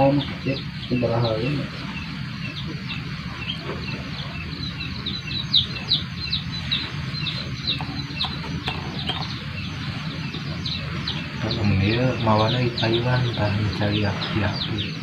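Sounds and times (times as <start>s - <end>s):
low background rumble: 0.0s - 15.0s
songbirds chirping: 0.0s - 15.0s.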